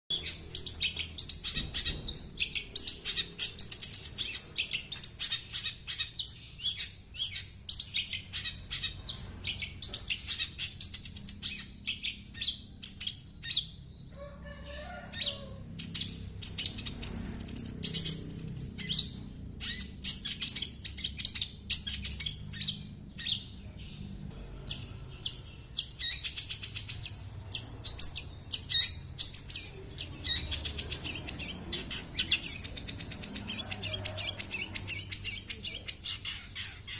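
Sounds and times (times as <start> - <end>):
bird chirping and trilling: 0.1 - 36.9.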